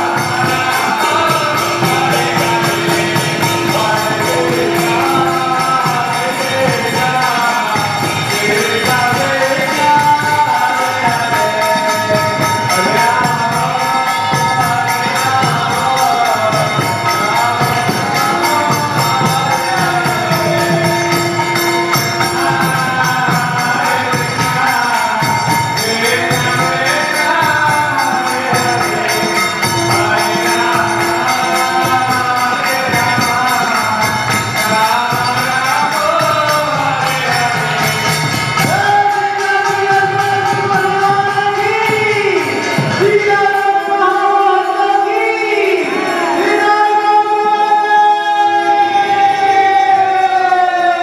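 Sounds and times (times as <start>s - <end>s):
group chanting: 0.0s - 40.9s
hand cymbals jingling: 0.0s - 50.4s.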